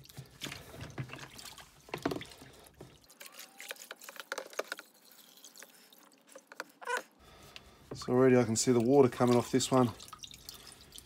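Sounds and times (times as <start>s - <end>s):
small water splashes: 0.0s - 6.6s, 8.4s - 11.0s
water sloshing in a plastic tub: 0.0s - 11.0s.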